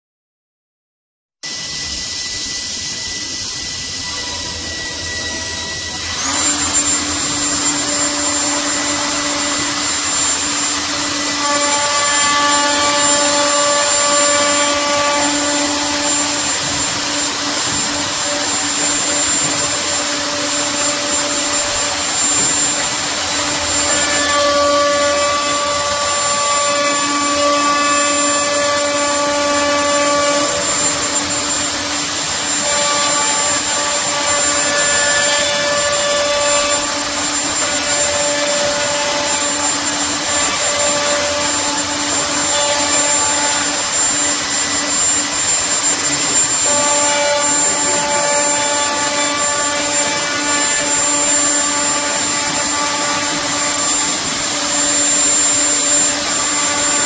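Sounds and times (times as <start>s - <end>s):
router cutting wood: 1.5s - 57.0s
router whining: 1.5s - 57.0s.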